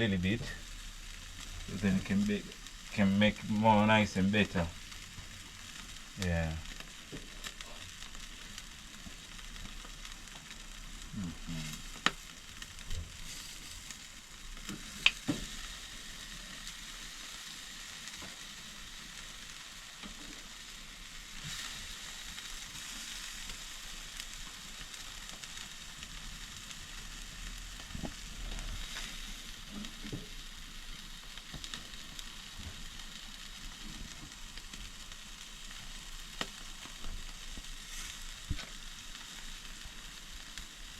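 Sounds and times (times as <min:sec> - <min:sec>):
chicken sizzling on a grill: 0:00.0 - 0:40.9.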